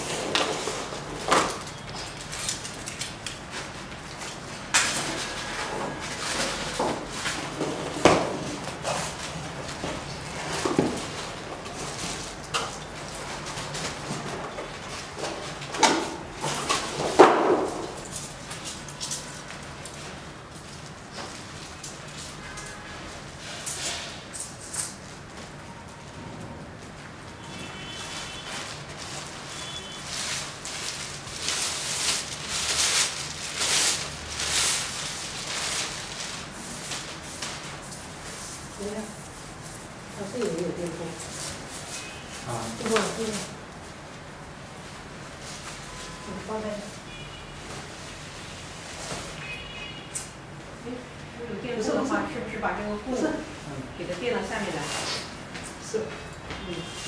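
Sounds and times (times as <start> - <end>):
cardboard and plastic rustling: 0.0 - 26.0, 26.8 - 47.0.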